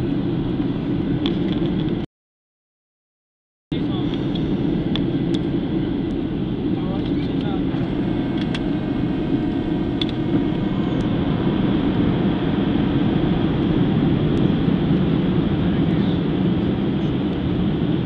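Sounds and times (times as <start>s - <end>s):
airliner cabin engine rumble: 0.0s - 2.1s, 3.7s - 18.0s.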